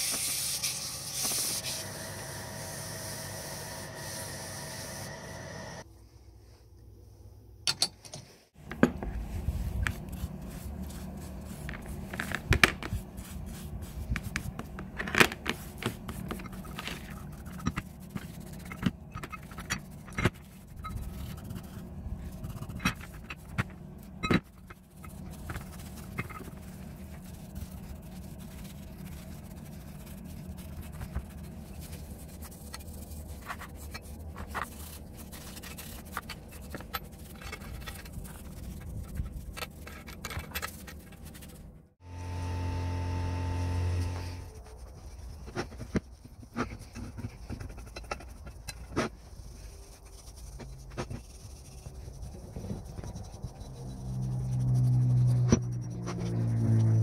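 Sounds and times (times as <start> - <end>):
bristle brush scraping metal parts: 8.0 - 41.7, 43.5 - 57.0.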